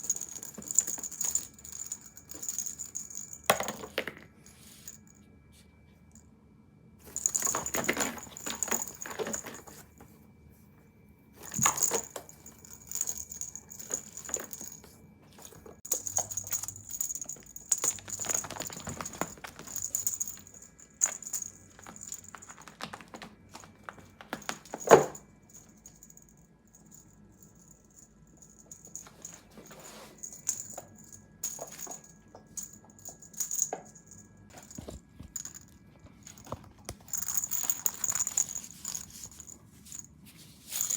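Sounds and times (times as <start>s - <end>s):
small bell jingling: 0.0s - 3.8s, 7.0s - 9.8s, 11.4s - 36.5s, 37.1s - 40.1s.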